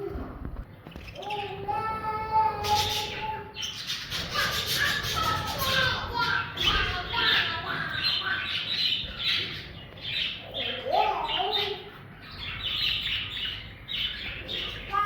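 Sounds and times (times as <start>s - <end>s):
budgies chirping: 0.0s - 15.0s.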